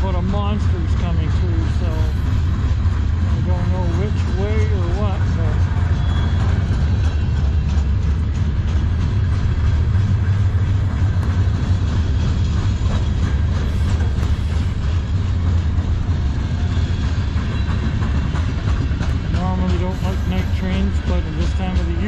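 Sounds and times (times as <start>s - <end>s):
rail clicks: 0.0s - 22.0s
train wheels rumbling on rail: 0.0s - 22.0s.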